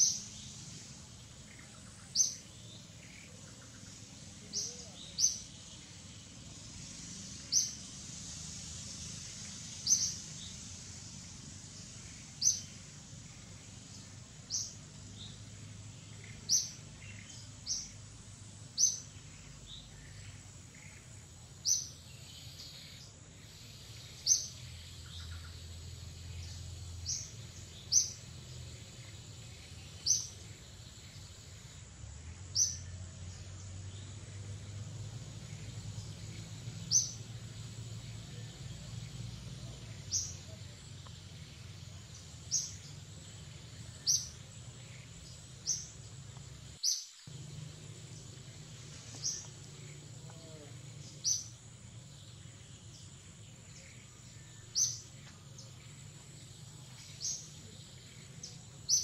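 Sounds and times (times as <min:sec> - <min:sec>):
faint forest background noise: 0:00.0 - 0:59.0.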